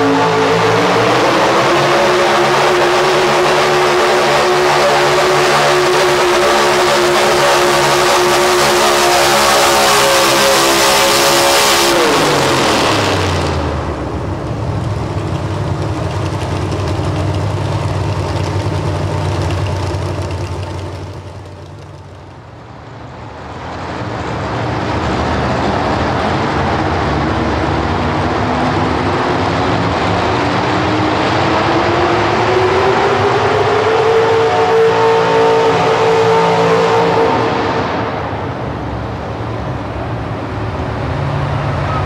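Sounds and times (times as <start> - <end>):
truck engine revving with whine: 0.0 - 42.0
truck engine winding down: 0.0 - 42.0.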